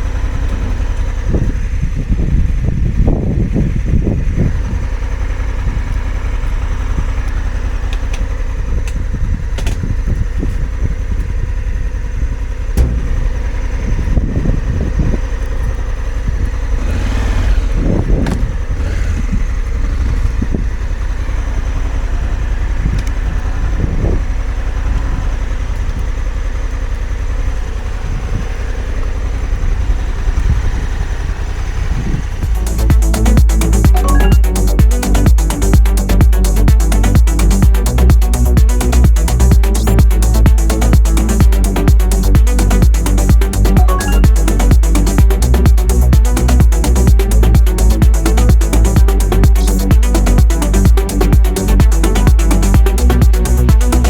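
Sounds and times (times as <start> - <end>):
heavy low rumble: 0.0 - 25.4, 28.0 - 54.0
motorcycle engine running: 0.0 - 54.0.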